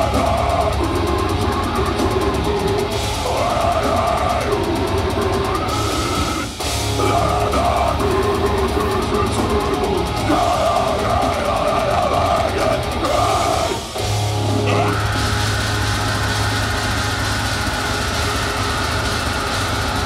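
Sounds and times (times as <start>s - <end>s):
distorted guitars: 0.0s - 20.0s
drums: 0.0s - 20.0s
harsh screamed vocals: 0.0s - 20.0s.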